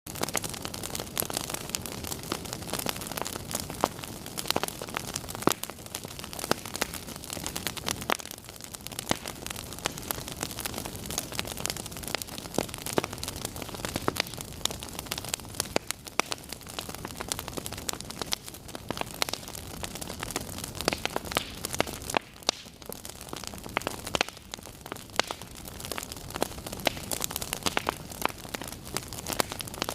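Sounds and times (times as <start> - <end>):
wood fire crackling and popping: 0.1 - 29.9.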